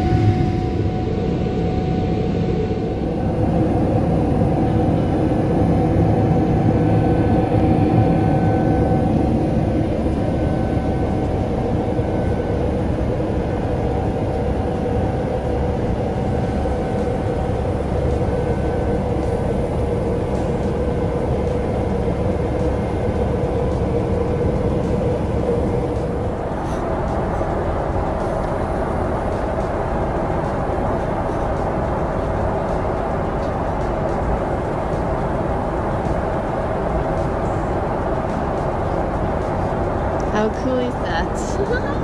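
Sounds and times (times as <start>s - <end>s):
airplane cabin engine drone: 0.0s - 42.0s.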